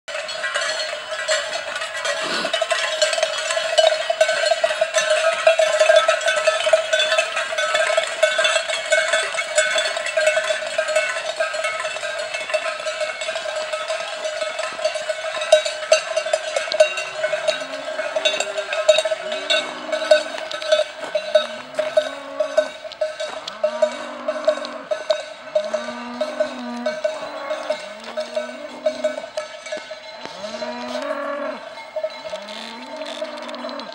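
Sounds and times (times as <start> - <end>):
cowbells clanking: 0.1 - 33.9
cattle calling: 1.8 - 33.9.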